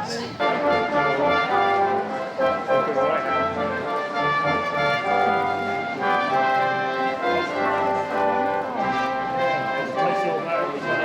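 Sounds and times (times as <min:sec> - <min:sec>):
brass instruments playing chords: 0:00.0 - 0:11.0.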